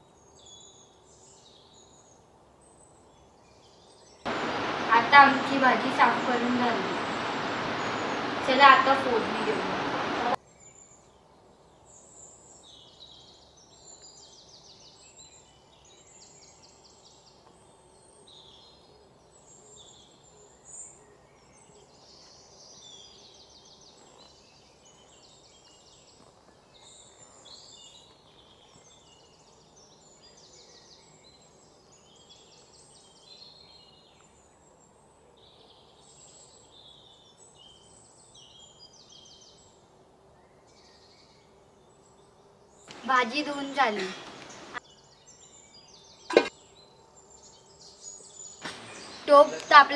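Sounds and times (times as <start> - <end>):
faint birdsong chirps and trills: 0.0 - 49.9.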